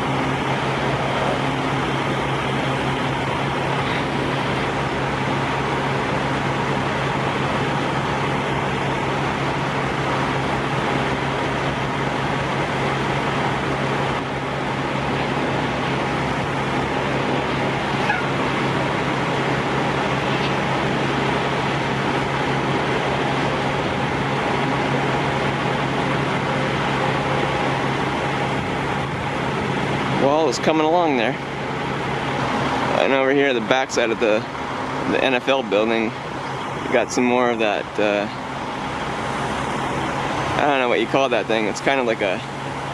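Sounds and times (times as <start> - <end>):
steady mechanical drone: 0.0 - 42.9.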